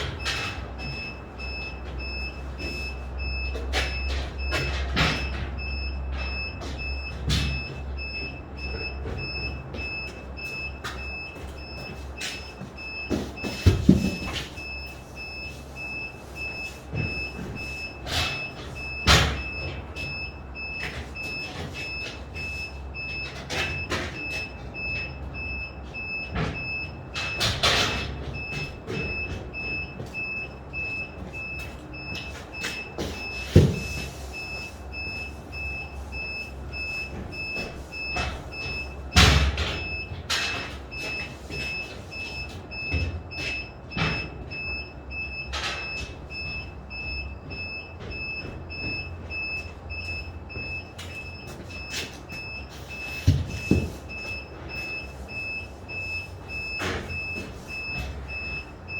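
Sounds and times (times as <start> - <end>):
electronic warning beeper: 0.2 - 58.9.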